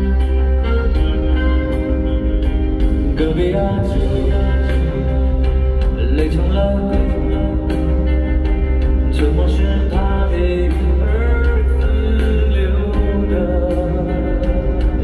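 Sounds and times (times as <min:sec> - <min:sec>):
heavy steady bass: 0:00.0 - 0:15.0
man singing: 0:02.4 - 0:15.0.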